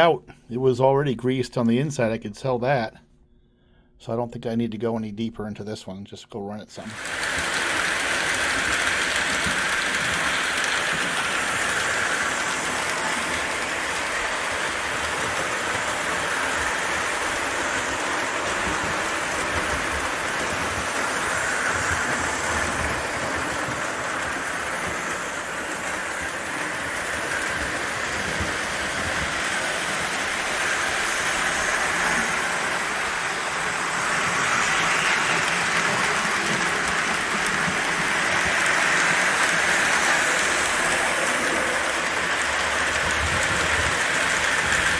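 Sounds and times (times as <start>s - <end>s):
toy locomotive whirring and rattling: 6.8s - 44.9s.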